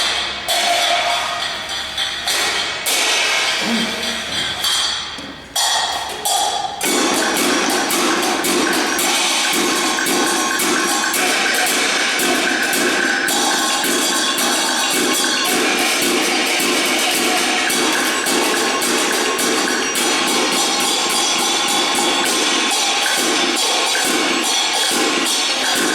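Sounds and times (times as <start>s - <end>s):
sharp struck percussion: 0.0s - 25.9s.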